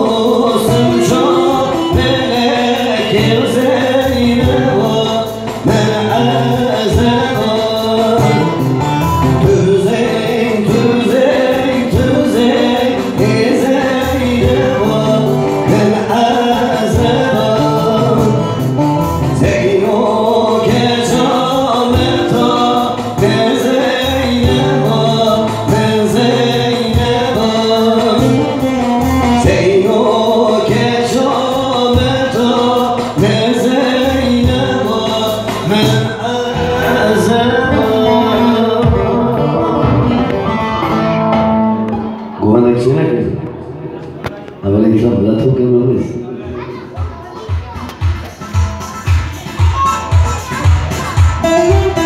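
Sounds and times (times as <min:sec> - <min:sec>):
man singing into microphone: 0:00.0 - 0:43.7, 0:50.5 - 0:52.0
musical backing: 0:00.0 - 0:52.0.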